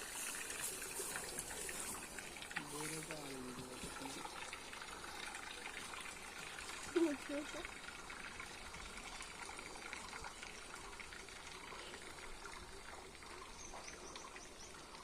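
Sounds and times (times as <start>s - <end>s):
water trickling and lapping: 0.0s - 15.0s.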